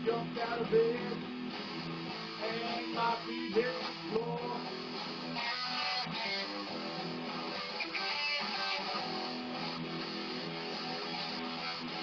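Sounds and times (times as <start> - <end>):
electric guitar blues-rock riff: 0.0 - 12.0.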